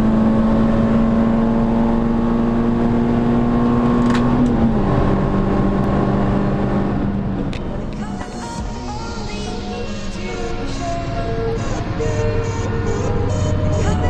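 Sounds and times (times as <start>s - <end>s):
car engine from inside cabin: 0.0s - 8.7s, 9.6s - 14.0s.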